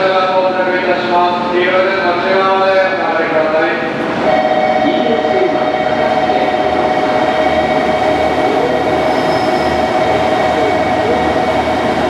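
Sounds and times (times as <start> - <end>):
diesel train running slowly: 0.0 - 12.0.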